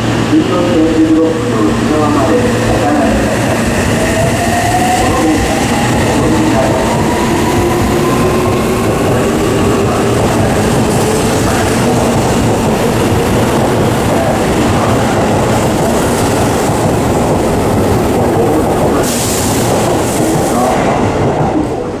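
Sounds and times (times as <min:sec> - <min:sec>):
train wheels rumbling and clattering: 0:00.0 - 0:22.0.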